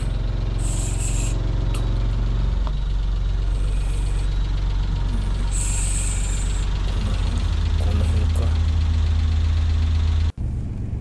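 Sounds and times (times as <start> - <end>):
small car engine running: 0.0 - 11.0.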